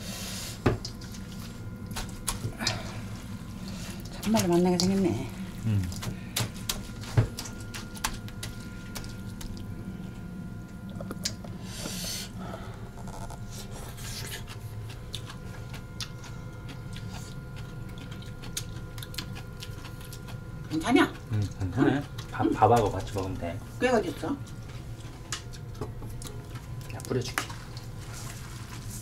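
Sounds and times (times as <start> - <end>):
faint steady hum: 0.0 - 29.0
wet food squishing in a bowl: 0.6 - 11.6, 12.3 - 29.0.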